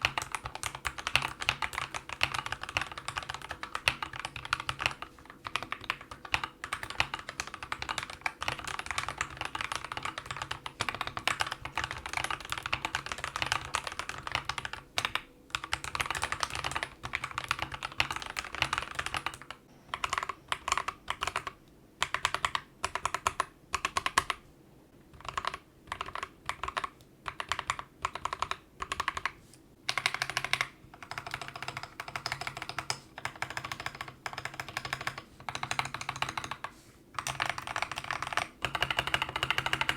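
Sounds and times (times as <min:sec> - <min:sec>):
mechanical keyboard typing: 0:00.0 - 0:24.4, 0:25.1 - 0:39.9.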